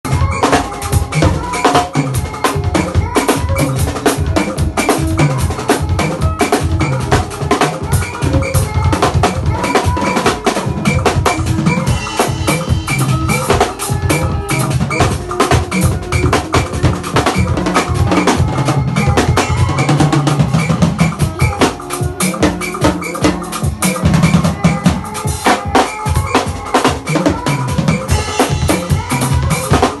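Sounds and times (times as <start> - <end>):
fast drumming on drum kit: 0.0 - 30.0
held pitched instruments: 0.1 - 30.0.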